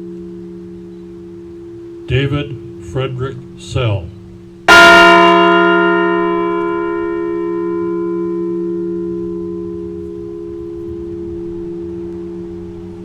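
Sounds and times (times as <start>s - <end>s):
large bell ringing: 0.0s - 13.0s
low bell hum: 0.0s - 13.0s.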